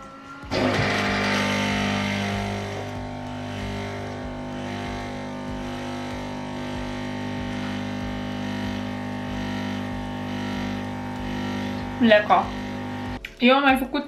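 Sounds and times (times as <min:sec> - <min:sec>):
coffee machine humming: 0:00.0 - 0:13.2.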